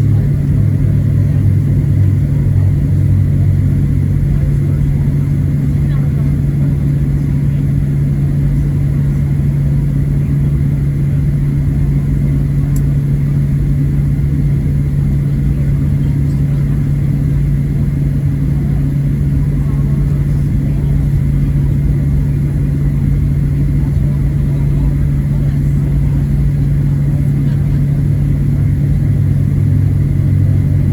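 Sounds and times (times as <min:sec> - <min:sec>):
aircraft cabin drone: 0:00.0 - 0:30.9
constant engine hum: 0:00.0 - 0:30.9.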